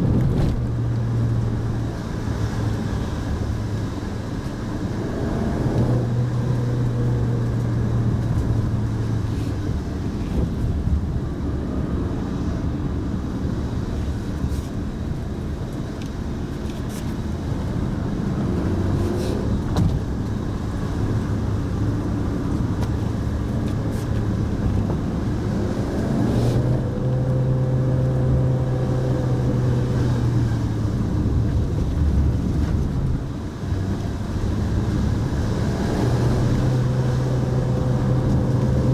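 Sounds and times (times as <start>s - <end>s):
tyre and road noise: 0.0s - 38.9s.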